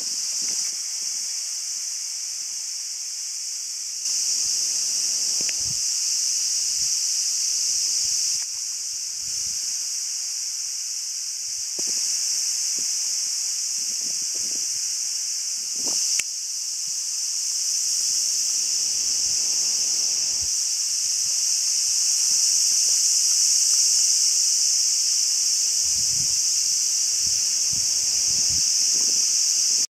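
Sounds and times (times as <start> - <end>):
insects shrilling: 0.0 - 29.9.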